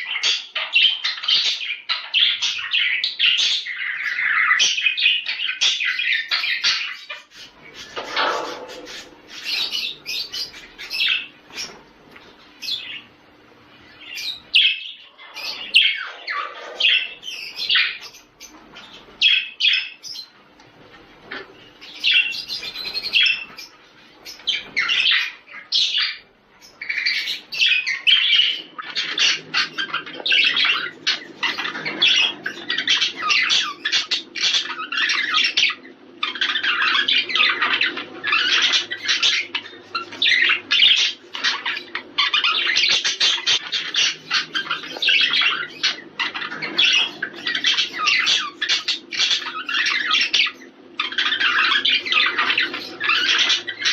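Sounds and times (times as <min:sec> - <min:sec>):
budgerigar warbling chirps: 0:00.0 - 0:11.8, 0:21.8 - 0:53.9.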